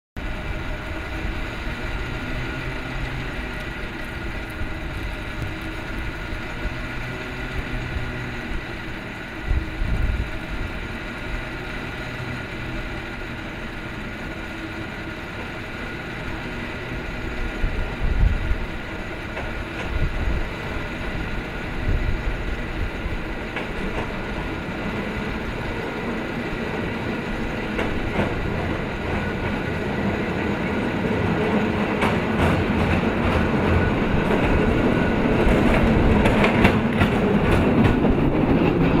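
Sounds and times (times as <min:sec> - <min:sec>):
cable car rumbling on rails: 0:00.2 - 0:39.0.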